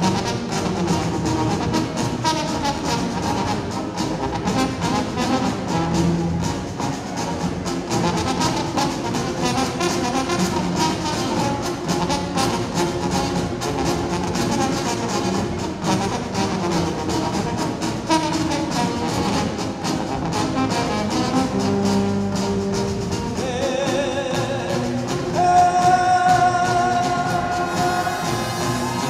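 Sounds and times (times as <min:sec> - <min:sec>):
brass band playing: 0:00.0 - 0:29.0.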